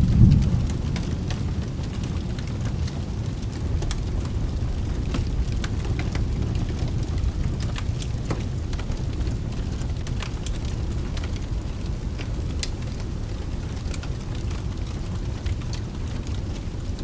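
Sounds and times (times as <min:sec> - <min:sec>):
low rumble: 0:00.0 - 0:16.6
fireplace crackling: 0:00.0 - 0:17.0
steady rain hiss: 0:00.0 - 0:17.0.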